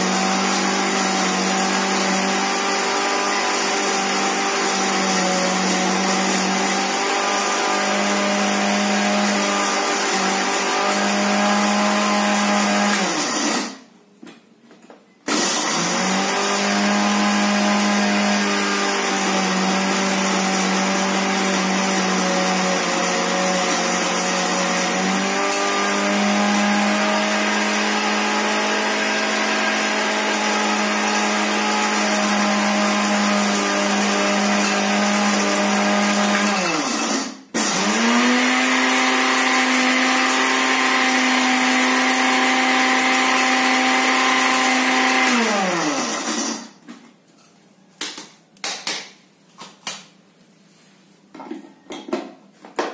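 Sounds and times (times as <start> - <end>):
blender grinding: 0.0 - 13.9, 15.3 - 46.9.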